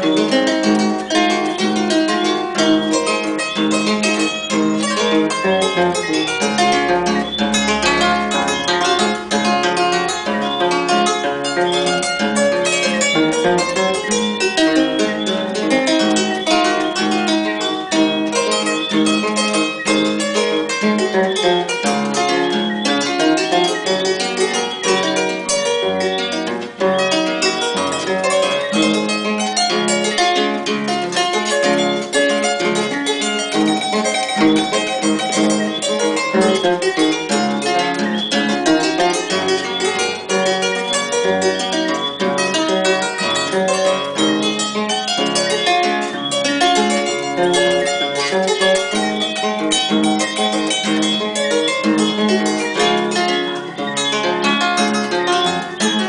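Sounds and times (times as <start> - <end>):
harp plucked notes: 0.0 - 56.0.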